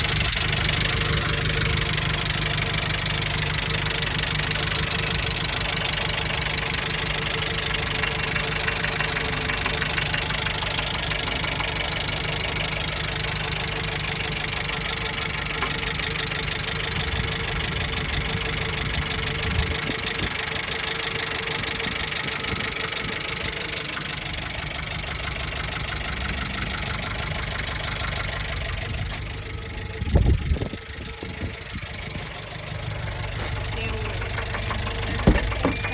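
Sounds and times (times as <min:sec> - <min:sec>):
engine running with knocking: 0:00.0 - 0:35.9.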